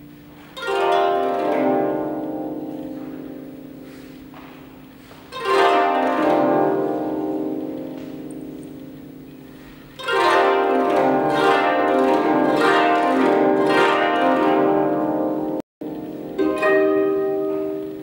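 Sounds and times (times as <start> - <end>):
koto ensemble playing: 0.0 - 18.0.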